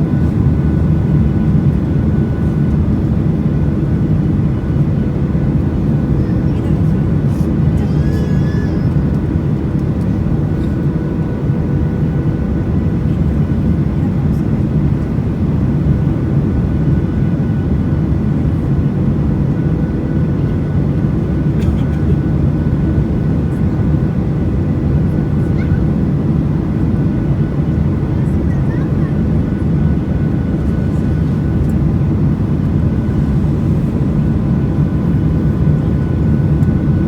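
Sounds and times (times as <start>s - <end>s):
airplane cabin rumble: 0.0s - 37.0s.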